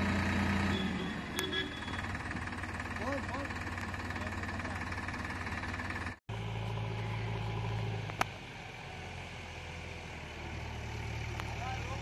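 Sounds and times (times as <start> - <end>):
backhoe diesel engine running: 0.0 - 12.0
tractor diesel engine running: 0.0 - 12.0.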